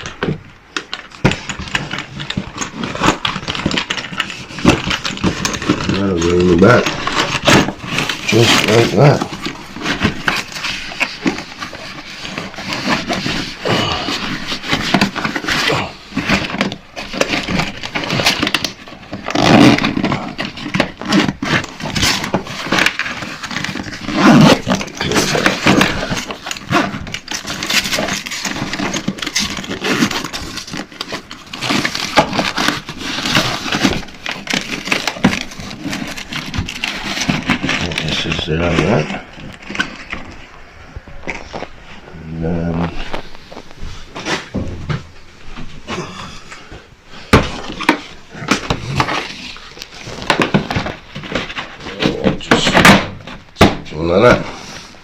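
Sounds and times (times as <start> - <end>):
rustling and scraping of handling: 0.0 - 55.0.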